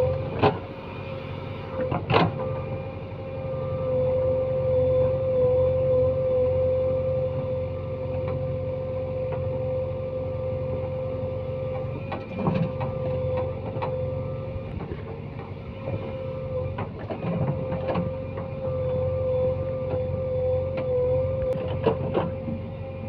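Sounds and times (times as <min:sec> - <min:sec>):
diesel machinery engine whining: 0:00.0 - 0:23.0.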